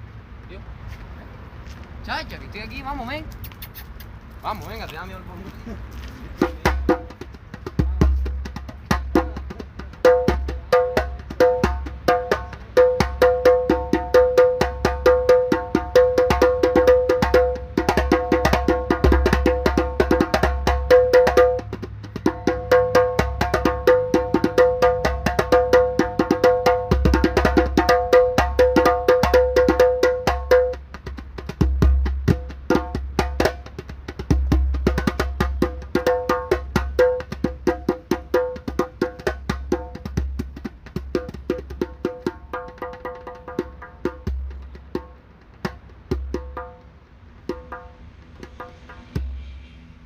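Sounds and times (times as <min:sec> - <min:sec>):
djembe hand strikes: 0:06.4 - 0:49.3.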